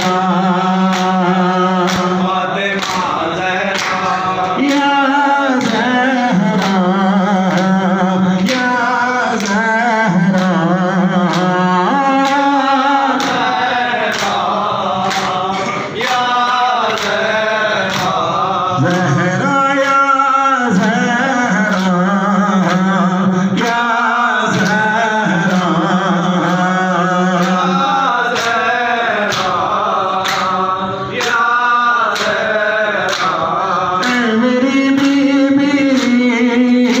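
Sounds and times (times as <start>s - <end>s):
man singing a lament: 0.0s - 37.0s
men's voices singing: 0.0s - 37.0s.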